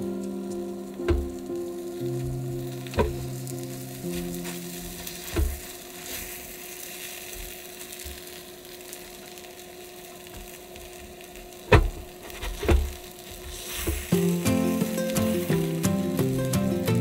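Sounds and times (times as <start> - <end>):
batter sizzling on hot plate: 0.0 - 17.0.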